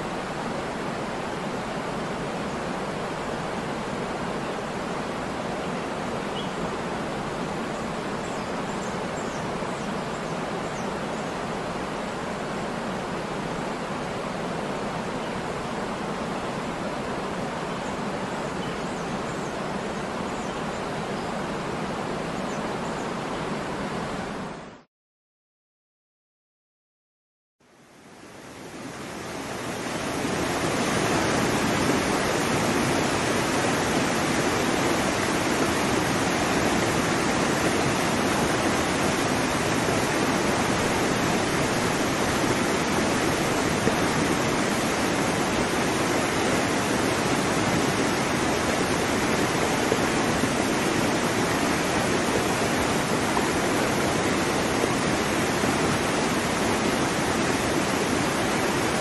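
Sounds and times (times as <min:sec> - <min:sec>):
steady rush of water: 0:00.0 - 0:24.8, 0:27.6 - 0:59.0.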